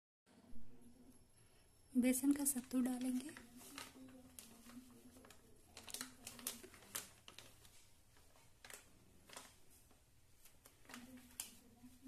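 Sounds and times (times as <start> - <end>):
plastic packet crinkling: 2.2 - 12.0.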